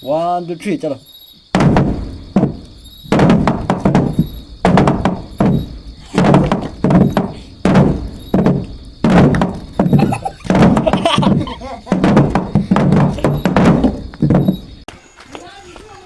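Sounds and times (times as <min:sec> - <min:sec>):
dull thuds: 0:01.4 - 0:14.9.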